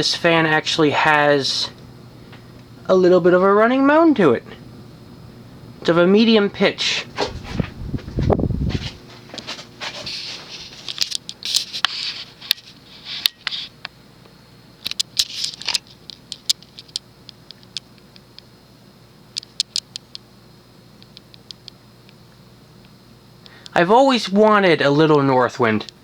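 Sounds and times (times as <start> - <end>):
ceiling fan motor running: 0.0 - 26.0.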